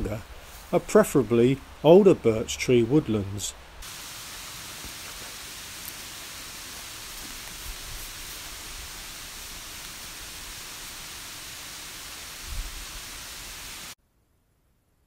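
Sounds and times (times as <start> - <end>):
broad outdoor hiss: 0.0 - 14.0.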